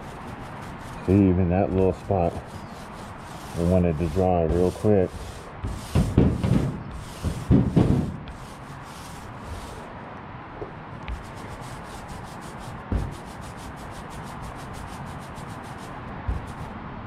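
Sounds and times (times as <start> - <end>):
paint roller rasping on metal: 0.0 - 9.9, 11.1 - 16.7.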